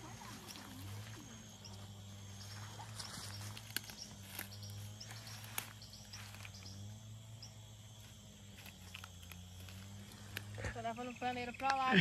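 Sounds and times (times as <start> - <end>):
insects calling: 0.0 - 12.0.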